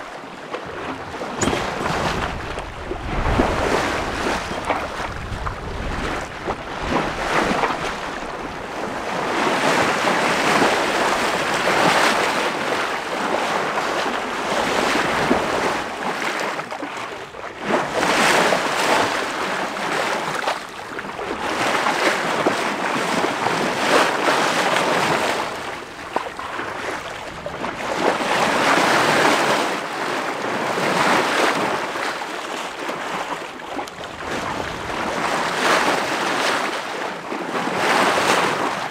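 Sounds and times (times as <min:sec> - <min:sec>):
water rushing along boat hull: 0:00.0 - 0:38.9
wind buffeting microphone: 0:00.6 - 0:29.7, 0:32.7 - 0:38.9.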